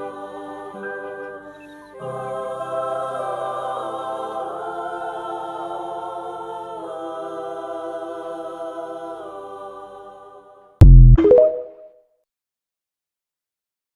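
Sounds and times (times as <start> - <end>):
choir-like wordless chord: 0.0 - 11.5.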